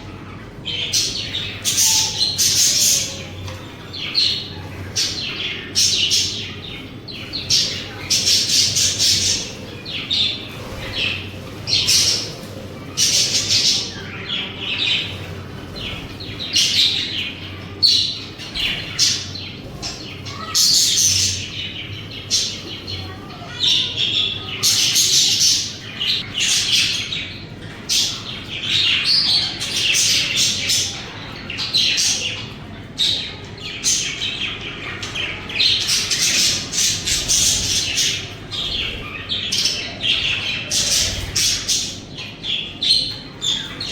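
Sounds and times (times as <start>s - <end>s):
budgies chirping and chattering: 0.0s - 43.9s.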